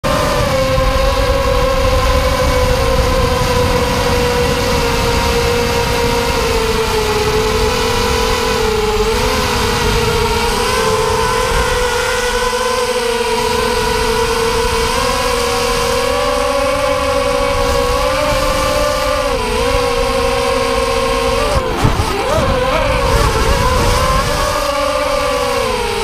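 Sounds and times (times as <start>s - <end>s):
drone motors whining: 0.0s - 26.0s
low wind rumble: 0.0s - 26.0s.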